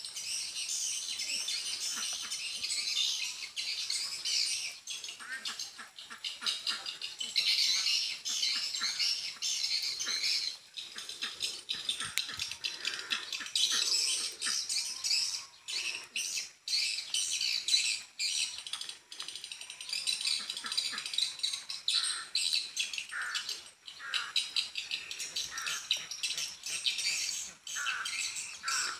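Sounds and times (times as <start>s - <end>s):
birds chirping and twittering: 0.0s - 28.9s.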